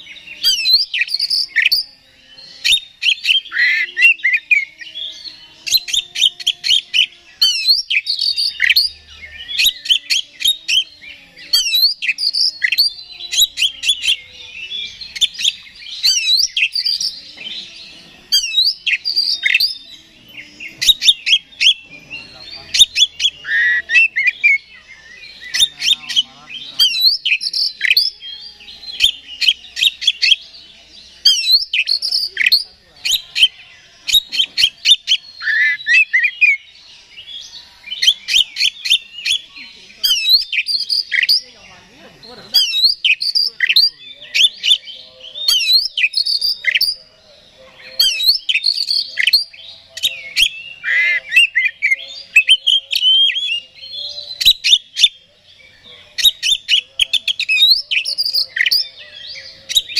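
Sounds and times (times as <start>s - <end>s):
magpie-robin singing: 0.0s - 59.9s.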